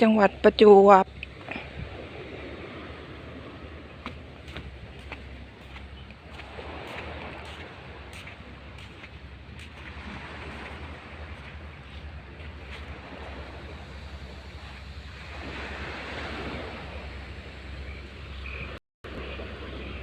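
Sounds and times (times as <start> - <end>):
wind buffeting microphone: 0.0 - 20.0
sea waves washing onto shore: 1.0 - 20.0.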